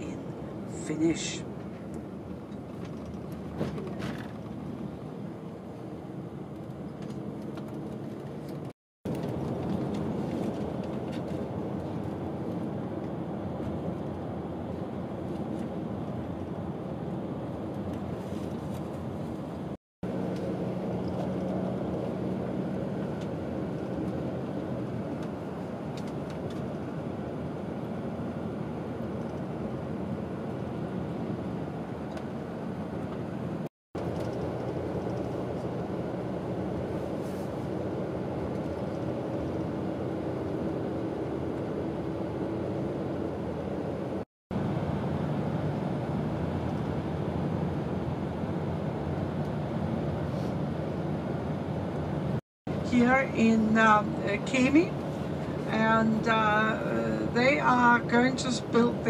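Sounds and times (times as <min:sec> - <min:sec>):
coach engine and road noise: 0:00.0 - 0:59.0.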